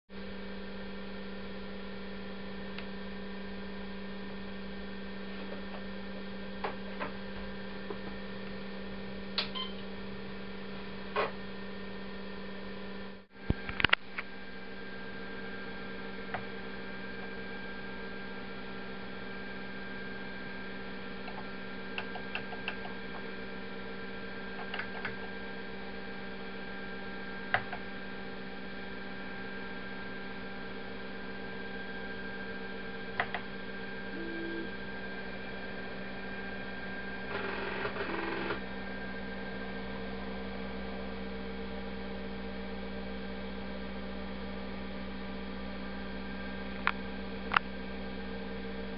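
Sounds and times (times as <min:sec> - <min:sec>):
computer electrical hum: 0:00.1 - 0:48.9.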